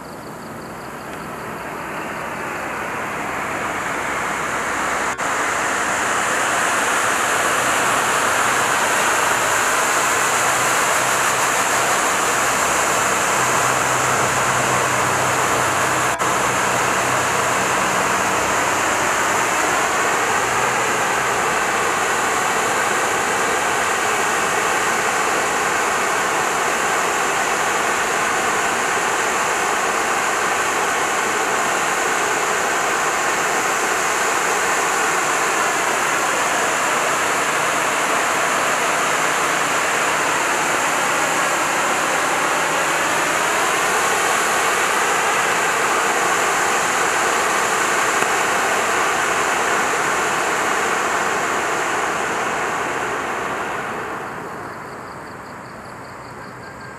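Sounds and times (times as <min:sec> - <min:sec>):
firework fountain hissing: 0:00.0 - 0:56.8.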